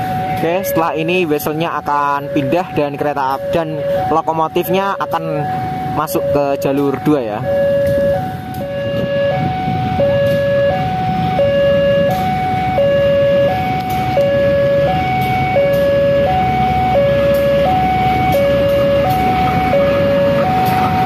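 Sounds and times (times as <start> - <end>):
diesel locomotive running: 0.0 - 21.0
two-tone crossing alarm chime: 0.0 - 21.0.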